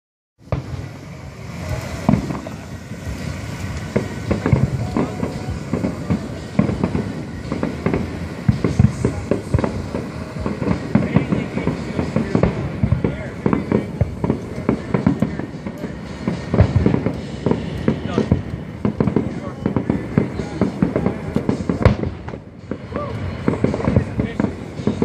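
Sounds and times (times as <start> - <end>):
fireworks bangs and crackling: 0.4 - 25.0.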